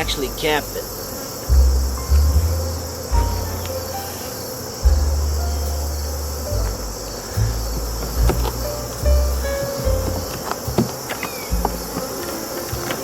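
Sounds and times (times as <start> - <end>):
honey bees humming: 0.0 - 13.0
low bass notes in music: 1.5 - 13.0.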